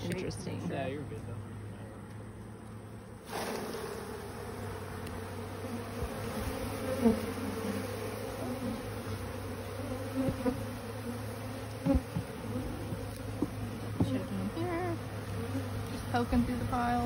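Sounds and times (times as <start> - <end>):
honeybees buzzing: 1.5 - 17.0.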